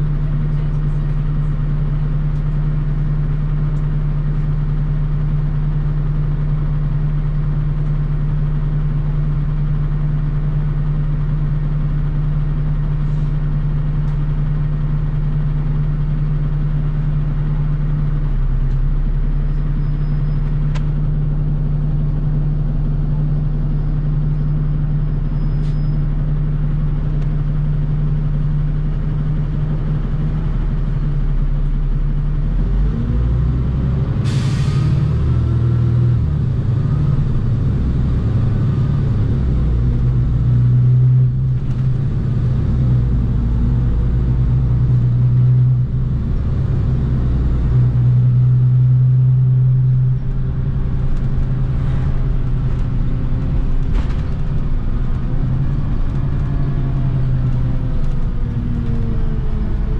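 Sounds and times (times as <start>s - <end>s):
bus diesel engine idling: 0.0s - 59.9s.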